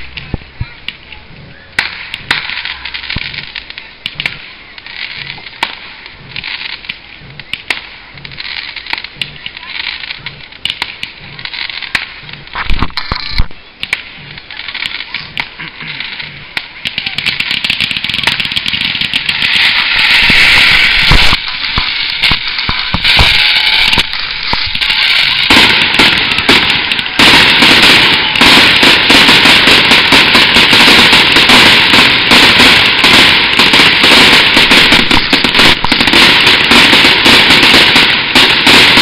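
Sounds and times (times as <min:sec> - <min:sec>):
fireworks bursting with bangs: 0:00.0 - 0:39.0.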